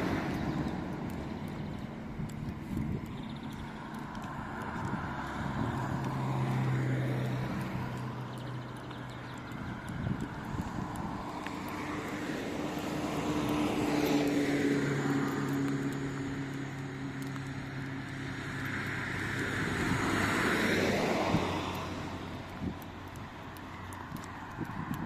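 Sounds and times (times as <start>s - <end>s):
engine humming: 0.0s - 25.0s
vehicles passing: 0.0s - 25.0s.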